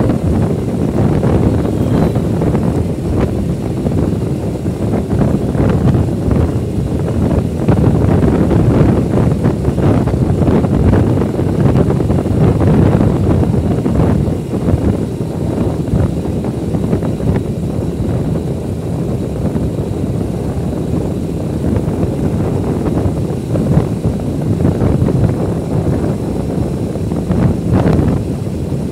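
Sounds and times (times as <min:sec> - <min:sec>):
wind rumbling on microphone: 0:00.0 - 0:28.9.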